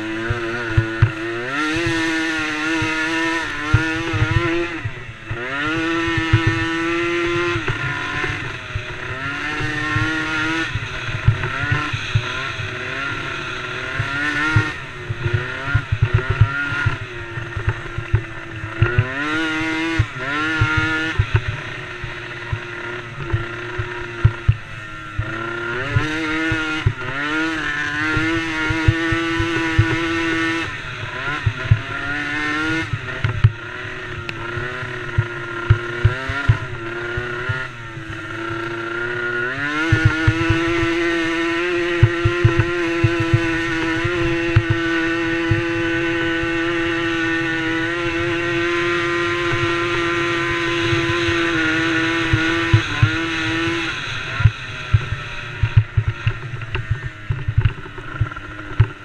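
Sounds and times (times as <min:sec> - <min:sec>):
atv engine racing: 0:00.0 - 0:59.0.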